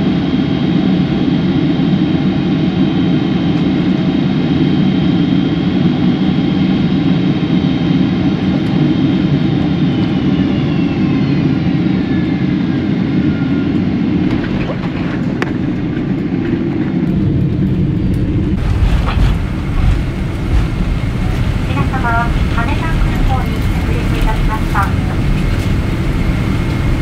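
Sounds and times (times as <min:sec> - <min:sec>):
high-pitched engine whine: 0:00.0 - 0:27.0
jet engine rumble in cabin: 0:00.0 - 0:27.0.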